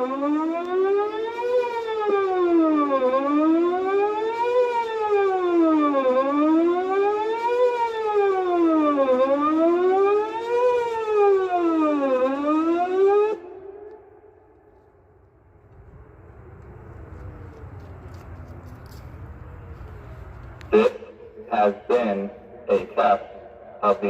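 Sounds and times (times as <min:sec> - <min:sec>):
warning siren wailing: 0:00.0 - 0:24.0.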